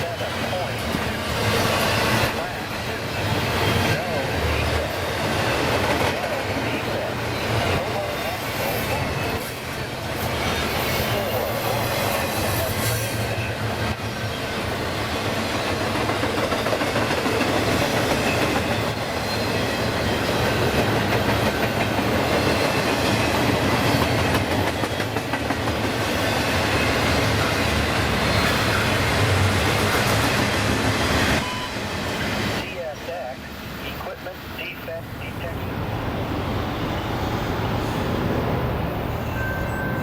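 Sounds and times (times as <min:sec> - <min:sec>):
freight train wheels on rails: 0:00.0 - 0:40.0.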